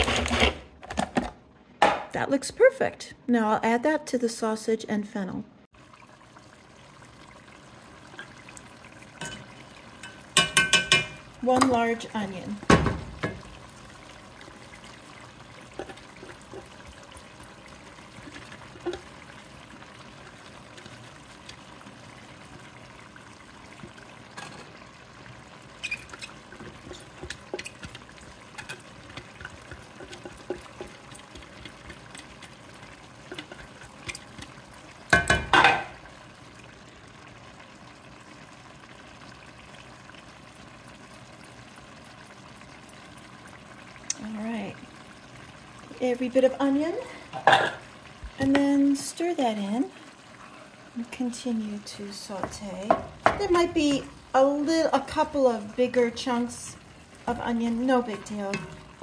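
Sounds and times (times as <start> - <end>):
sausage and onion sizzling: 5.7 - 59.0.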